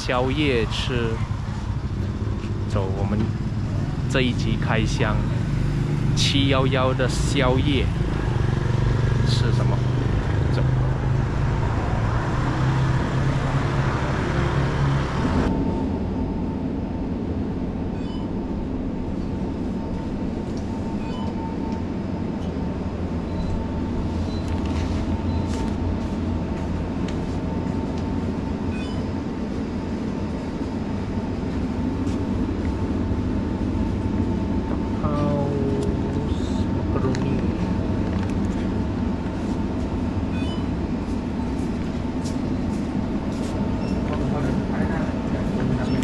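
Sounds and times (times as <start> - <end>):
vehicle rumbling in motion: 0.0 - 46.0.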